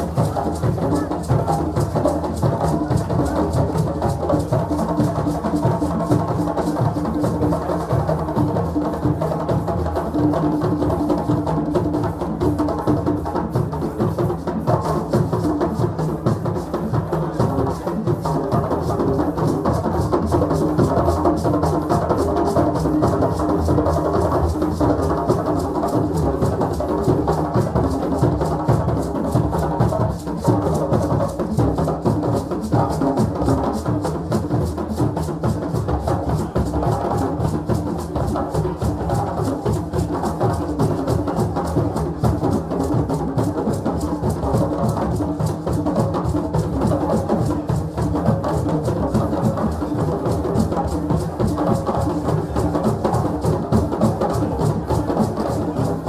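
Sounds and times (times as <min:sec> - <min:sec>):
fast drumming: 0:00.0 - 0:56.0.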